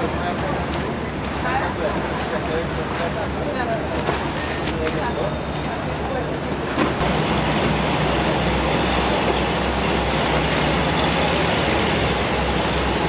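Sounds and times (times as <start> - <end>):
boat engine drone: 0.0 - 13.0
water wash rushing: 0.0 - 13.0.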